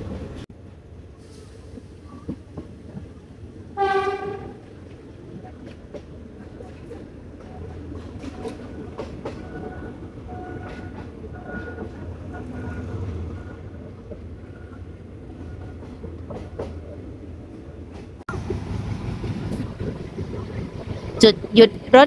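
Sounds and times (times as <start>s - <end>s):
train carriage rumble: 0.0s - 22.0s.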